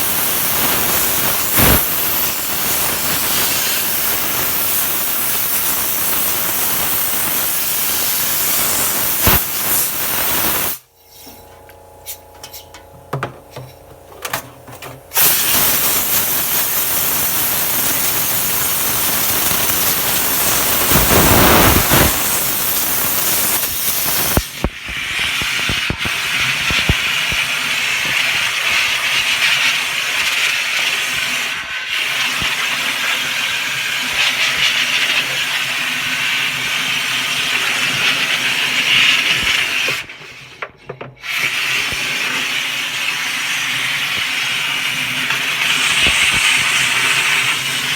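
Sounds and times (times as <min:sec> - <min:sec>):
water spraying with loud hiss: 0:00.0 - 0:10.8, 0:15.2 - 0:40.1, 0:41.3 - 0:47.9.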